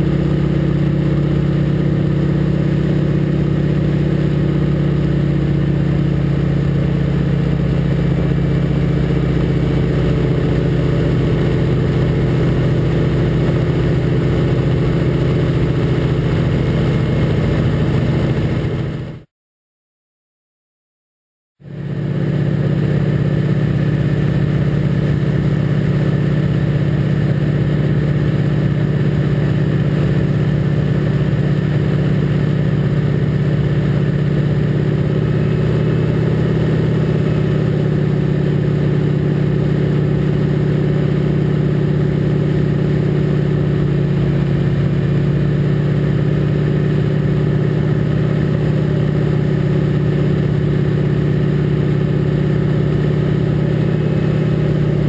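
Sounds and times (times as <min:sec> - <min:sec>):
propeller plane engine droning: 0:00.0 - 0:19.3, 0:21.6 - 0:55.0.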